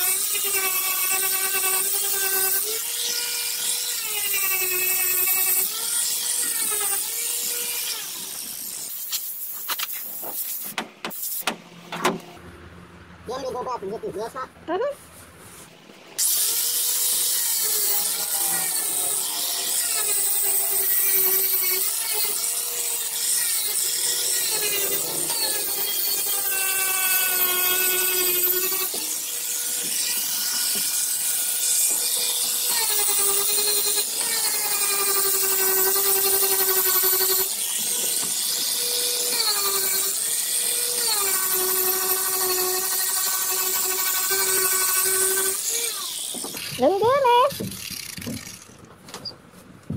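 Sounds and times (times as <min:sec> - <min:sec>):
power grinder on fiberglass: 0:00.0 - 0:11.4, 0:16.2 - 0:48.8.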